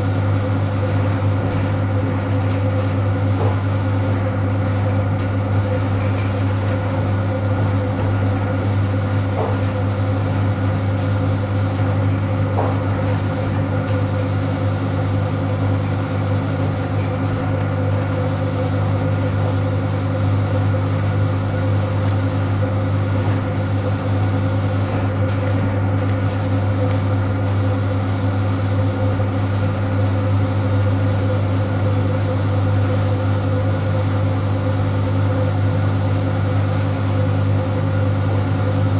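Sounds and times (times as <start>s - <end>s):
electric train running hum: 0.0s - 38.9s.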